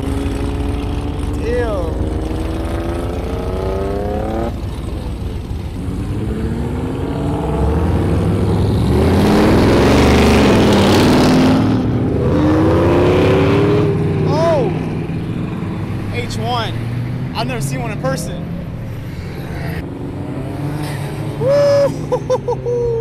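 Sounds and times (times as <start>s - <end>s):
cars accelerating past: 0.0s - 23.0s.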